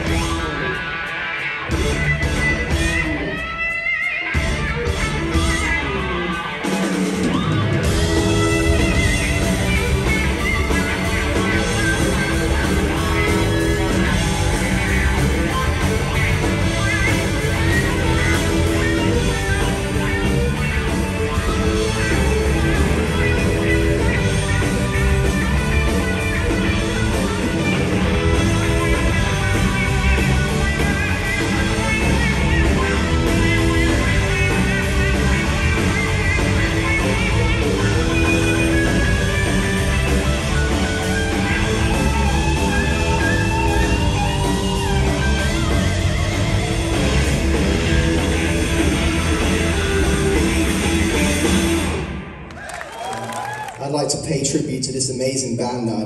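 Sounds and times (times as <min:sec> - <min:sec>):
blues-rock band playing: 0:00.0 - 0:56.0.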